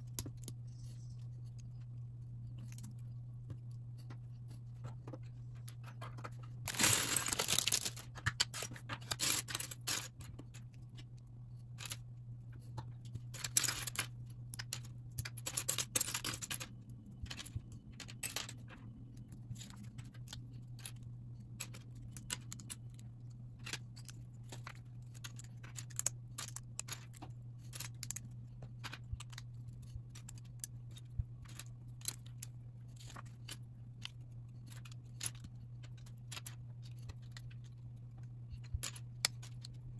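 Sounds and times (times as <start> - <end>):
steady low hum: 0.0 - 39.9
loose pieces clattering: 4.0 - 11.1, 11.7 - 12.0, 12.6 - 39.9.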